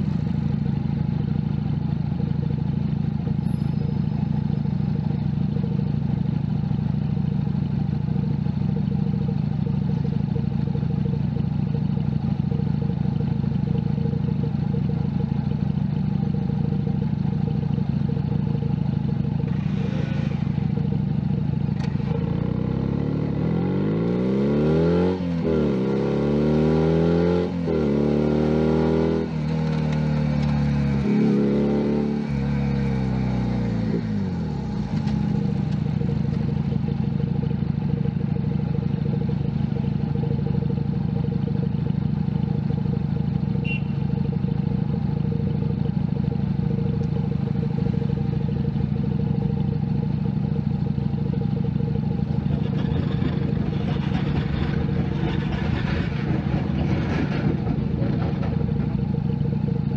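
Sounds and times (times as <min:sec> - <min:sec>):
motorcycle engine accelerating and idling: 0:00.0 - 0:59.9.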